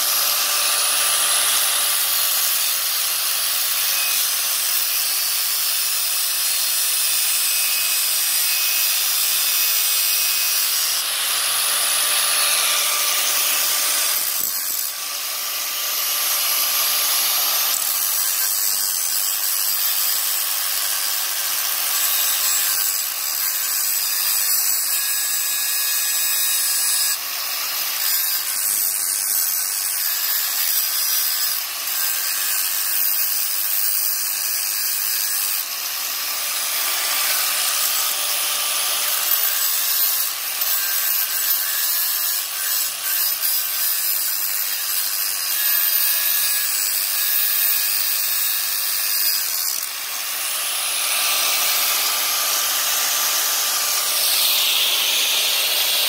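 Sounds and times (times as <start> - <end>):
angle grinder cutting metal: 0.0 - 56.0.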